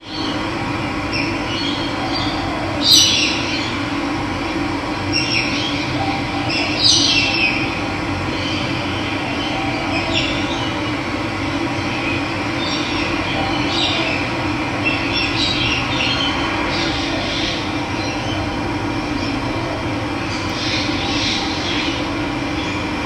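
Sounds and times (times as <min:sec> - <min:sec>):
birds chirping and calling: 0:01.1 - 0:03.8, 0:05.1 - 0:11.0, 0:11.7 - 0:19.6, 0:20.2 - 0:22.9.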